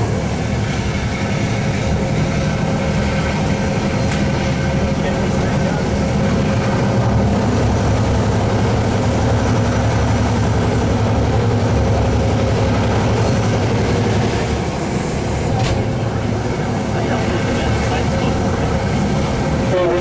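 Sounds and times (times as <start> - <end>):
diesel locomotive engine throb: 0.0 - 20.0
rumble of moving train: 0.0 - 20.0.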